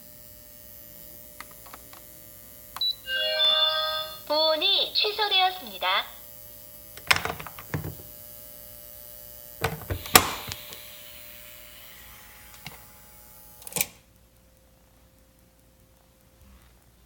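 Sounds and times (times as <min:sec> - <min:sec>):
rice cooker electrical hum and whine: 0:00.0 - 0:03.1, 0:04.4 - 0:17.0.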